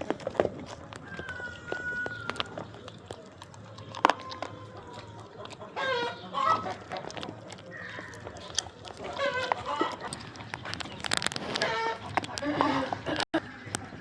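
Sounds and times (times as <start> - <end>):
farm animal calls: 0.0 - 13.2.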